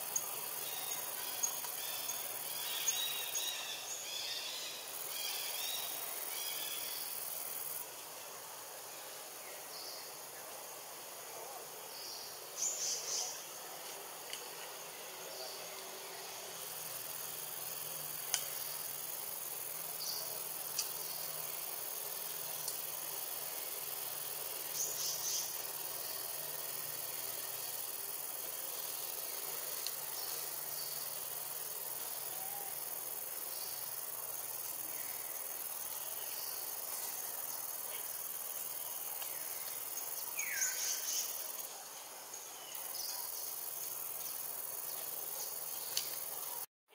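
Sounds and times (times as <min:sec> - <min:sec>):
insects droning: 0:00.0 - 0:46.7.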